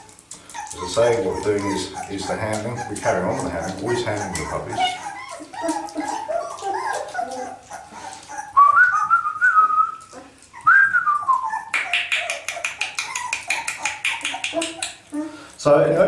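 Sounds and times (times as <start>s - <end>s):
puppies whining: 0.0s - 15.6s.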